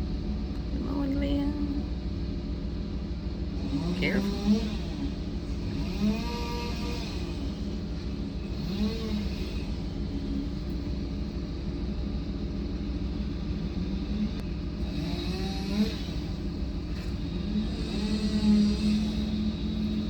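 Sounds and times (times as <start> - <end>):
large engine rumbling: 0.0 - 20.0.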